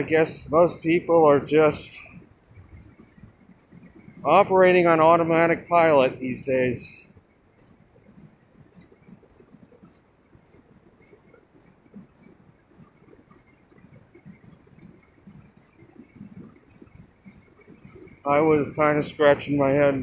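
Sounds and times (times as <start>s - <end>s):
faint high ticking: 0.0s - 20.0s.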